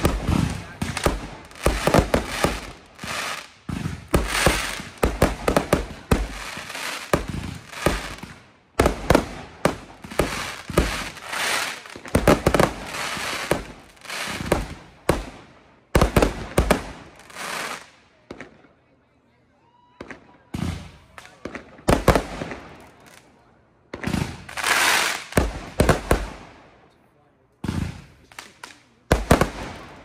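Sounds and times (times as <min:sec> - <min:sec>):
fireworks bangs and crackling: 0:00.0 - 0:18.8, 0:19.9 - 0:27.0, 0:27.6 - 0:30.0.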